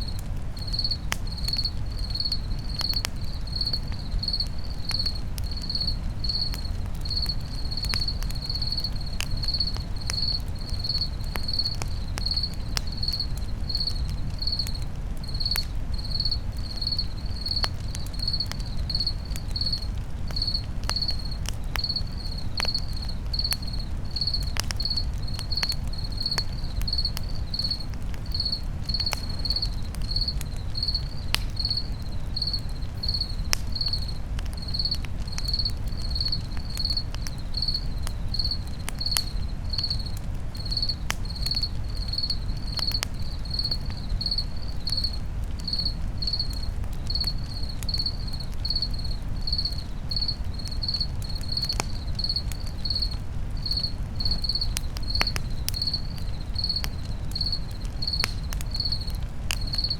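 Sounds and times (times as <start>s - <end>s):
campfire popping and crackling: 0.0s - 59.9s
cricket chirping: 0.0s - 59.9s.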